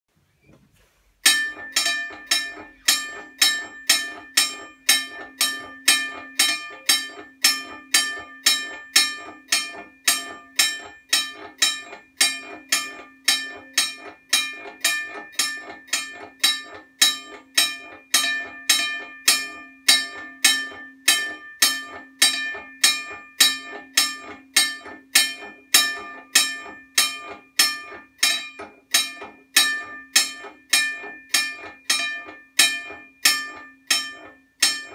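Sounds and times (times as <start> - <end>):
railroad crossing bell ringing: 1.2 - 34.9.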